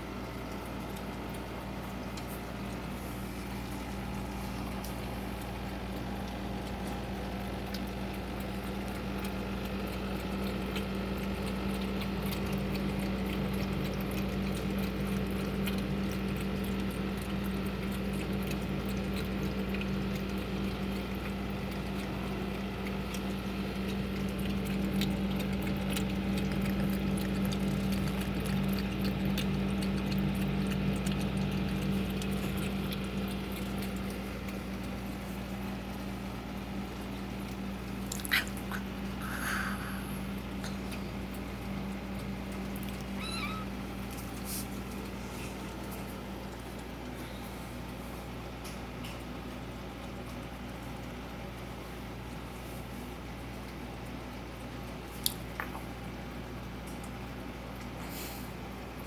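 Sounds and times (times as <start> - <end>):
cat lapping water: 0.0 - 59.0
steady low hum: 0.0 - 59.0.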